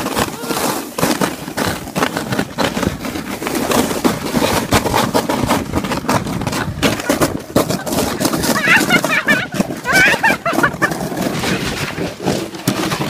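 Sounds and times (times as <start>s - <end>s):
sled scraping over snow: 0.0s - 13.0s.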